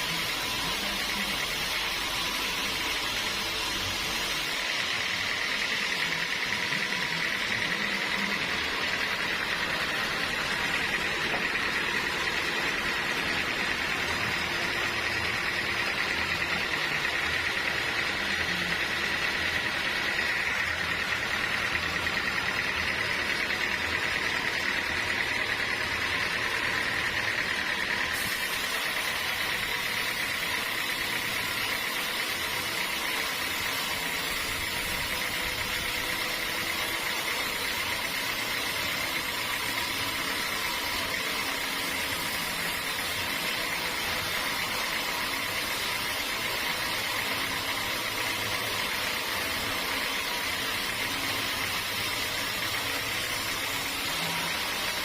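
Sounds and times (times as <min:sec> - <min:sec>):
high machine whine: 0:00.0 - 0:55.0
sawmill machinery running: 0:00.0 - 0:55.0.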